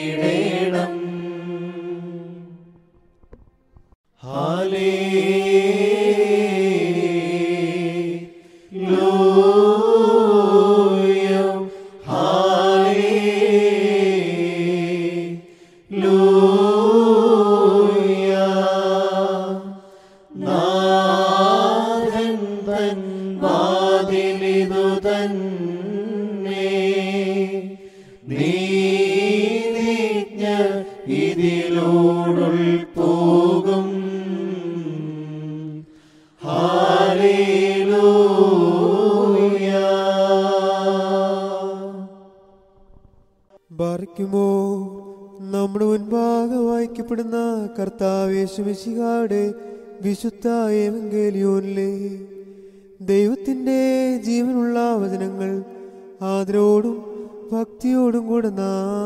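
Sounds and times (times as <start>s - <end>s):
unaccompanied liturgical chant: 0.0s - 3.1s, 4.2s - 42.6s, 43.6s - 59.0s.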